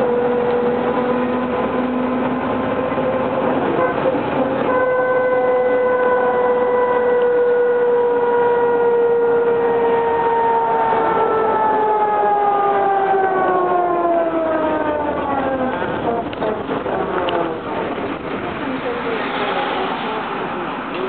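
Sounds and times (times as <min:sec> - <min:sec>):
bus engine and transmission whine: 0:00.0 - 0:21.0
road noise: 0:00.0 - 0:21.0.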